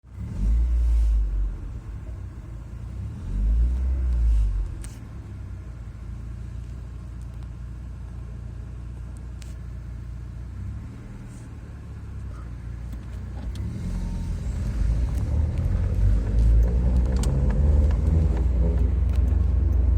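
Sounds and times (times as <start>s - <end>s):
car low rumble: 0.0s - 19.9s.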